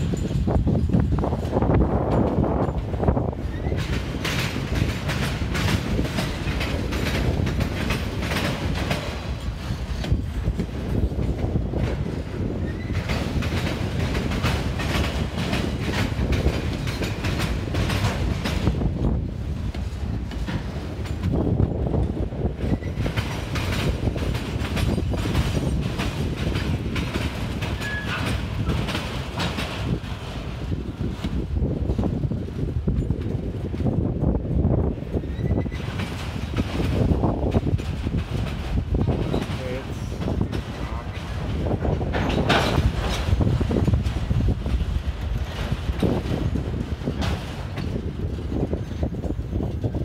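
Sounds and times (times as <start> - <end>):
train cars rumbling: 0.0 - 50.0
wheels clattering over rail joints: 0.0 - 50.0.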